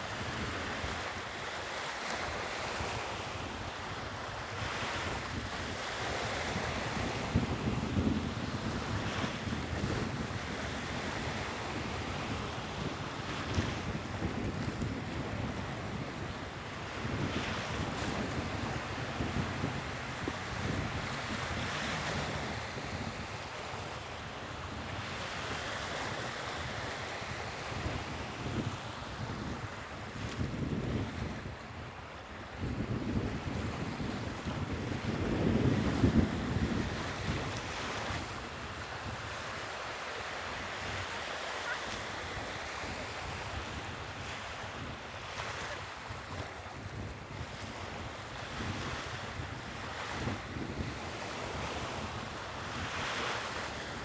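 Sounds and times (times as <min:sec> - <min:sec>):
wind noise on microphone: 0:00.0 - 0:54.0
sea waves breaking: 0:00.1 - 0:30.7, 0:33.4 - 0:54.0.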